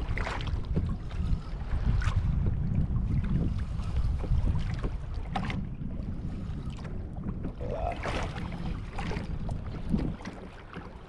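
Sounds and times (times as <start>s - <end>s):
water sloshing against hull: 0.0s - 11.0s
wind buffeting microphone: 0.0s - 11.0s.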